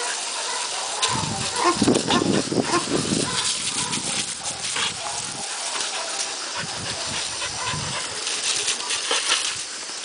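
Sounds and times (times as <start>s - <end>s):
hose spraying water on gravel: 0.0s - 10.0s.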